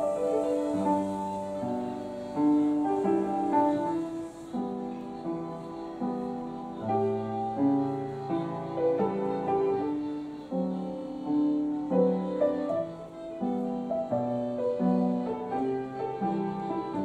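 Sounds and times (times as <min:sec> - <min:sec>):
solo piano melody: 0:00.0 - 0:17.0.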